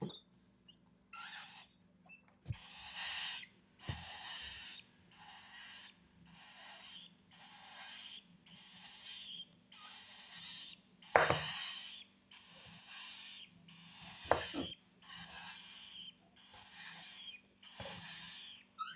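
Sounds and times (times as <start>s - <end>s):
bird chicks begging calls: 0.0s - 1.8s, 2.5s - 18.9s.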